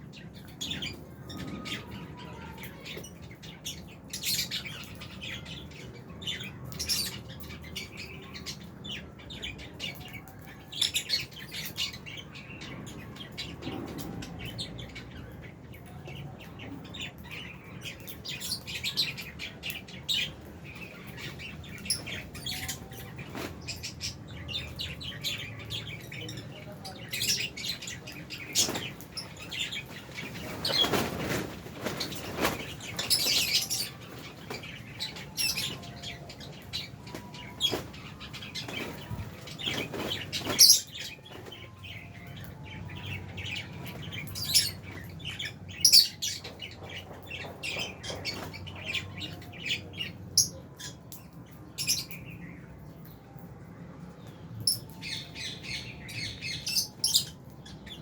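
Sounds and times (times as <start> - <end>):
lovebirds chirping: 0.0 - 53.2, 54.2 - 58.0.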